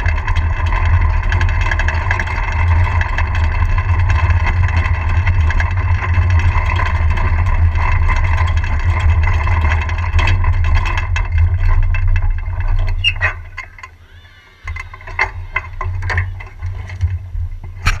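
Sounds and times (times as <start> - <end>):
clicks and knocks: 0.0 - 14.0, 14.6 - 18.0
cart wheels rumbling on asphalt: 0.0 - 18.0.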